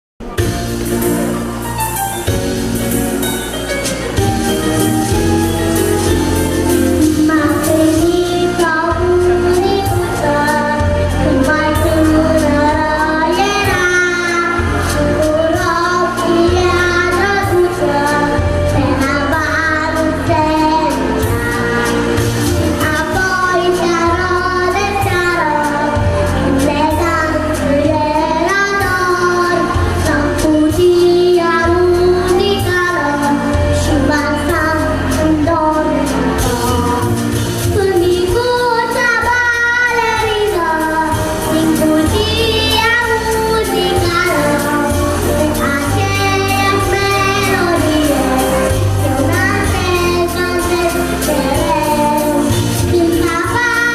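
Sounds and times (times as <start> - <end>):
backing track with bass beat: 0.2 - 53.9
child singing: 7.0 - 53.9.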